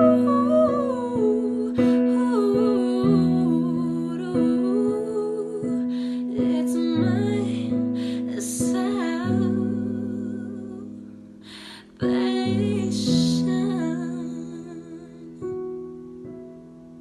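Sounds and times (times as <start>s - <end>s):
girl singing with vibrato: 0.0s - 11.2s, 12.0s - 15.6s
piano accompaniment: 0.0s - 17.0s.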